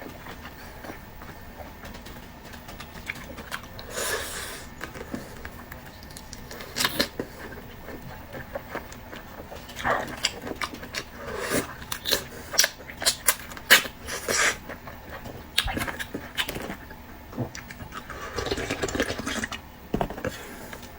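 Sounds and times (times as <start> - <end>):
wet chewing and lip smacking: 0.0 - 19.6.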